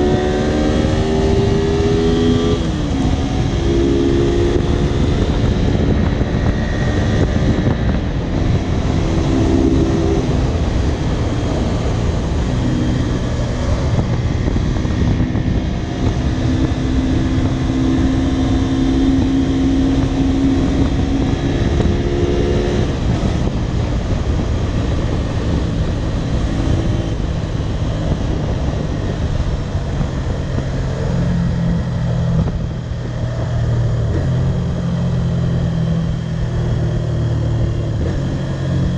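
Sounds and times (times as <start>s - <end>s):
low rumble of riding noise: 0.0s - 38.9s
motorcycle engine revving: 0.0s - 38.9s.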